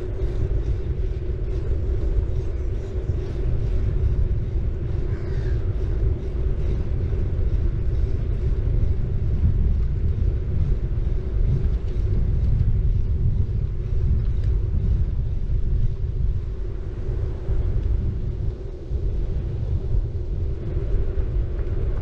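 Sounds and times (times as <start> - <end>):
constant hum: 0.0 - 22.0
wind on microphone: 0.0 - 22.0.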